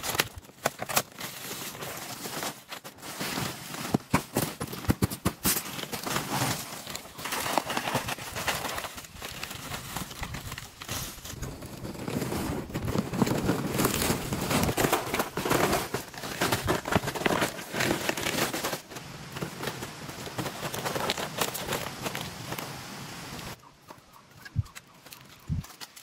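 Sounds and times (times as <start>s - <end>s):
rustling and crackling: 0.0s - 26.0s.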